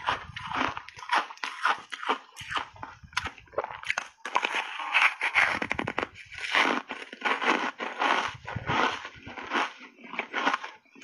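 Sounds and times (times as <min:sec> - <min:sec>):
ice being chewed crunching: 0:00.0 - 0:11.0.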